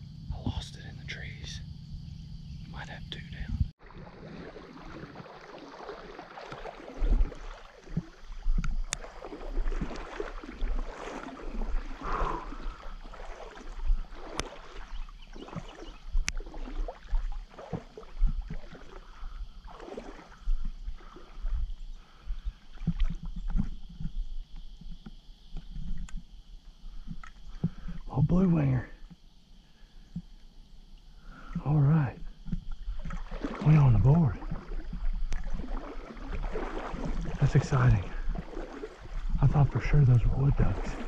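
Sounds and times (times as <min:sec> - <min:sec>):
water sloshing from wading: 0:00.1 - 0:41.0.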